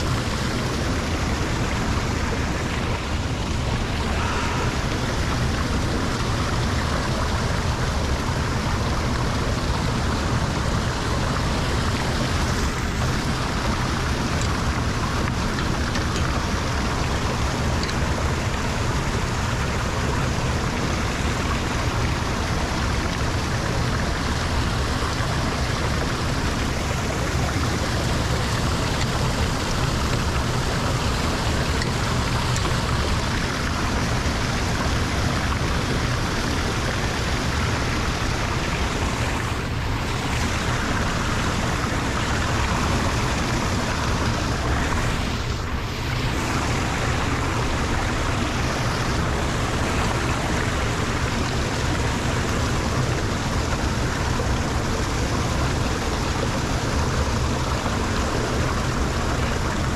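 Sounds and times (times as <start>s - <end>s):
water rushing into drain: 0.0s - 59.9s.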